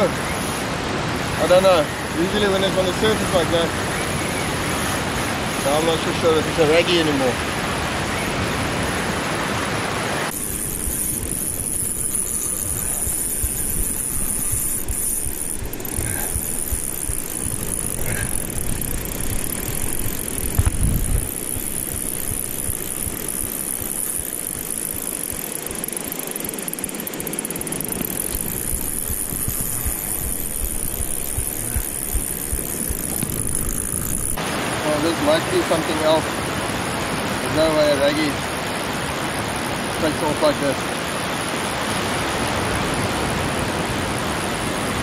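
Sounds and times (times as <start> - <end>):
fishing reel high-pitched buzz: 0.0 - 9.0, 10.2 - 43.2
wind rumbling on microphone: 0.0 - 45.0.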